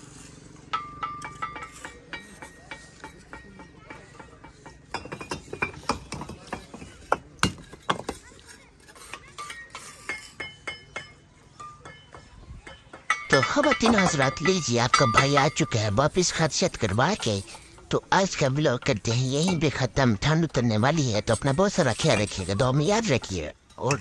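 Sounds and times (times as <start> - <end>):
bricks clinking and knocking: 0.6 - 24.0.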